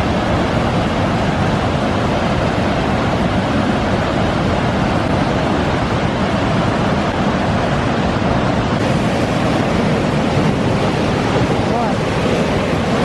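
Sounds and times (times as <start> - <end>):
rushing waterfall: 0.0 - 13.0.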